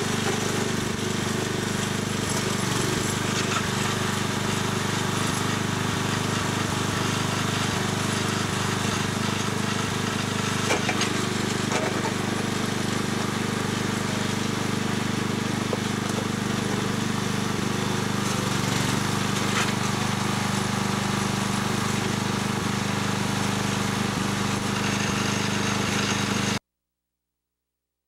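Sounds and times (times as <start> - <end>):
small engine running: 0.0 - 26.6.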